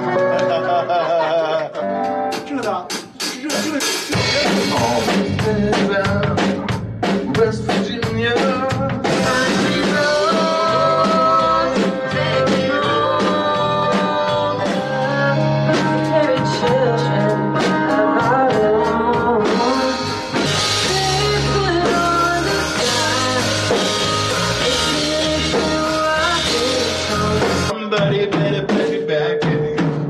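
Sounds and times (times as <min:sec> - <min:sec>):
live rock band playing: 0:00.0 - 0:30.0
person singing: 0:02.3 - 0:30.0.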